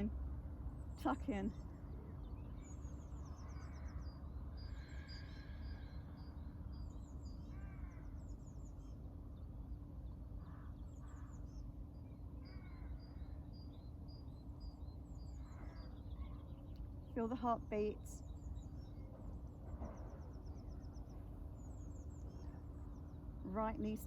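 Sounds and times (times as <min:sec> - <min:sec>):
birds chirping: 0:00.0 - 0:24.0
steady low hum: 0:00.0 - 0:24.0
lower bird calls: 0:00.7 - 0:24.0.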